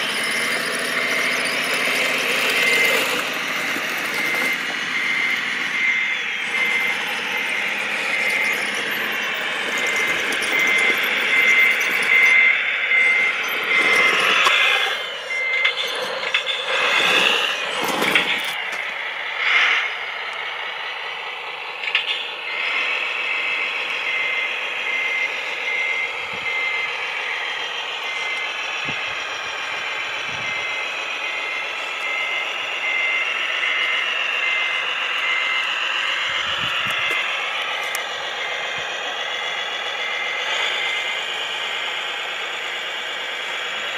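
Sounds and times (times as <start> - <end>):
reversing beeper beeping: 0.0 - 43.9
toy truck mechanical running noise: 0.0 - 43.9.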